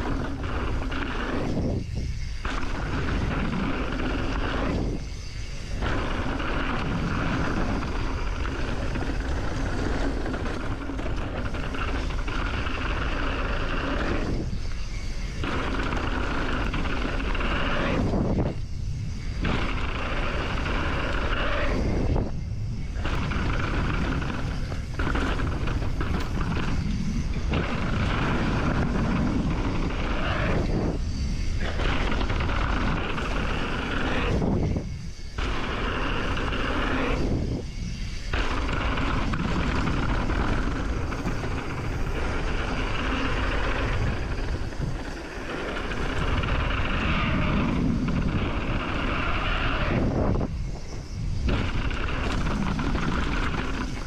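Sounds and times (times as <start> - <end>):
bike tyre rumble: 0.0 - 54.0
wind rushing over camera: 0.0 - 54.0.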